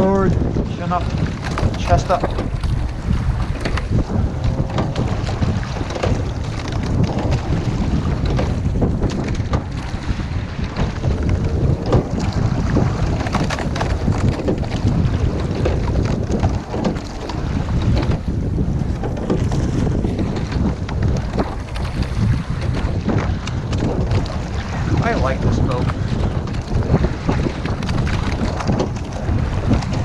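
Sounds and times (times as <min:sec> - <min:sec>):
water splashes: 0:00.0 - 0:30.0
wind rumbling on microphone: 0:00.0 - 0:30.0.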